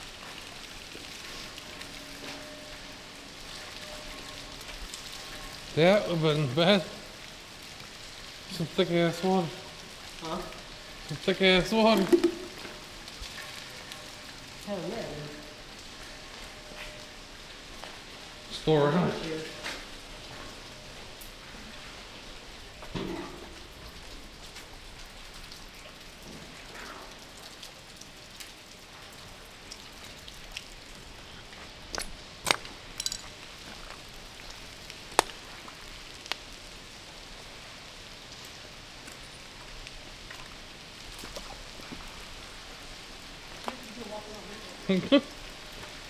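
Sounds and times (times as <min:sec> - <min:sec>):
sharp water drips: 0:00.0 - 0:46.0.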